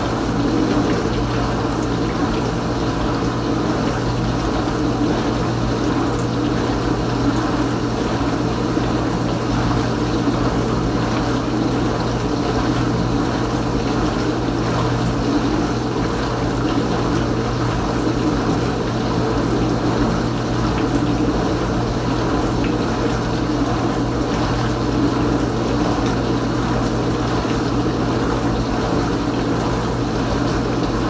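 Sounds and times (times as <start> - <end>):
dishwasher motor hum: 0.0 - 31.0.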